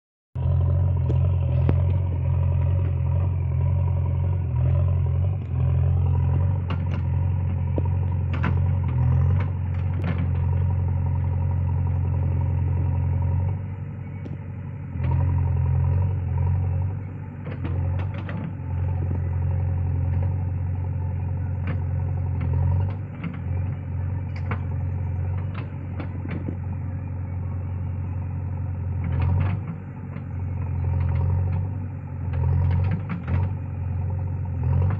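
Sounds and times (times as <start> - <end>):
diesel engine running: 0.4 - 34.9.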